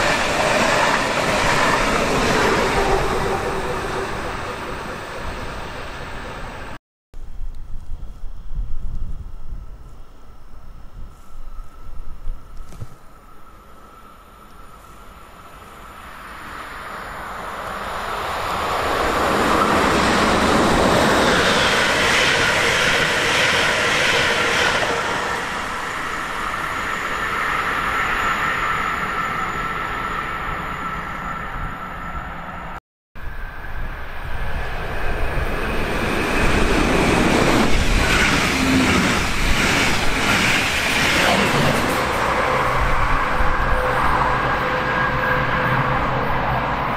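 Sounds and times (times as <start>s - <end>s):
steady train tone: 0.0s - 6.8s, 13.1s - 46.9s
train wheels rushing on rails: 0.0s - 6.8s, 14.8s - 32.2s, 33.4s - 46.9s.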